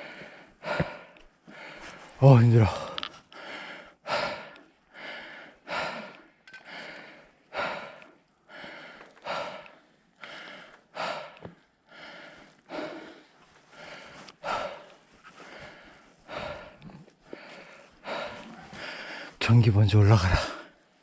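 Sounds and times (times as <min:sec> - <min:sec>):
person panting heavily: 0:00.0 - 0:19.4.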